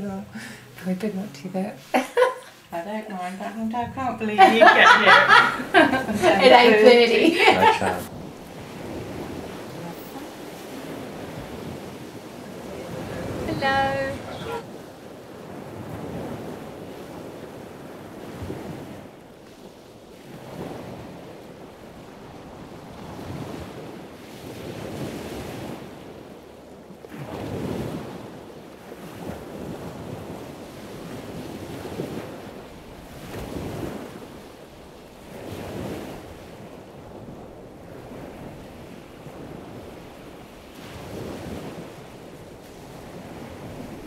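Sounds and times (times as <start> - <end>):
sea noise: 0.0 - 44.0
wind buffeting microphone: 0.0 - 44.0
rushing wind: 3.8 - 44.0.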